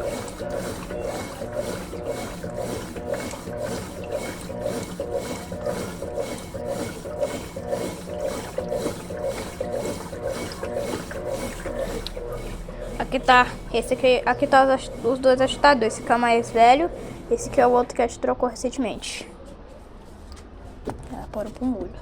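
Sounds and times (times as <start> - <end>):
washing machine agitator swishing: 0.0 - 20.8.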